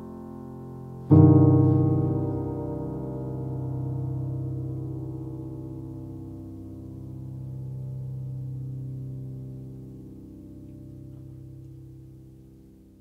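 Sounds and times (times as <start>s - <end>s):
ringing low piano chord: 0.0s - 13.0s.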